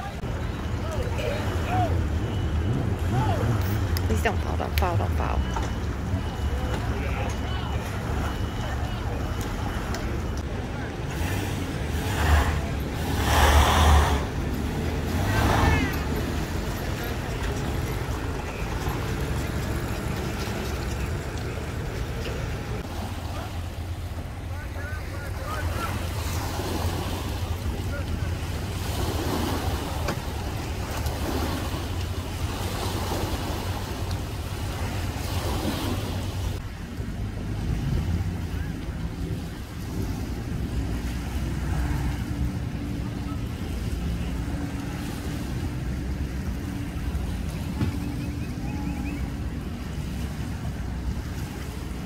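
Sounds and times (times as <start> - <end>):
boat engines idling: 0.0 - 52.0
small waves lapping on concrete: 0.0 - 52.0.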